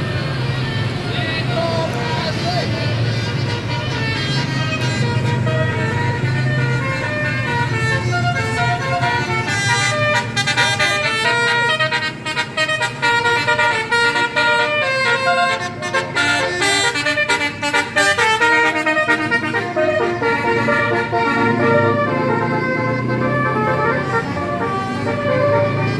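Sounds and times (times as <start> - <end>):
multi-tone bus horn melody: 0.0 - 25.9.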